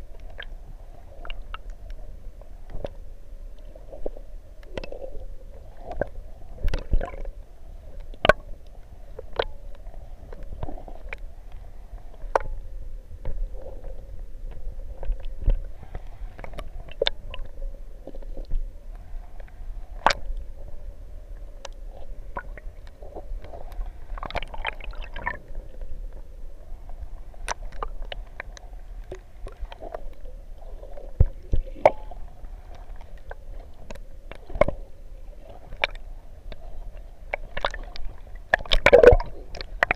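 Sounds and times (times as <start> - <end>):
sharp underwater clicks and crackles: 0.0 - 20.6, 21.3 - 39.9
underwater rumble of moving water: 0.0 - 39.9.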